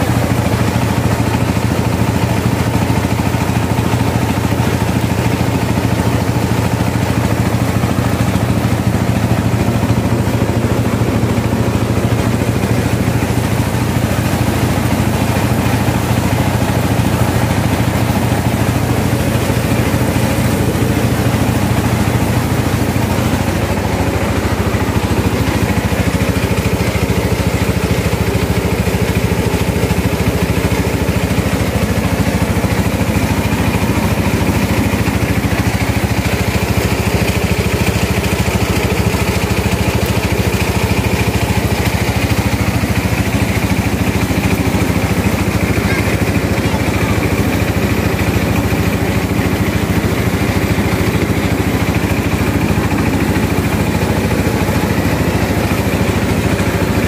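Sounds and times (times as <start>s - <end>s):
mill machinery humming: 0.0s - 57.0s.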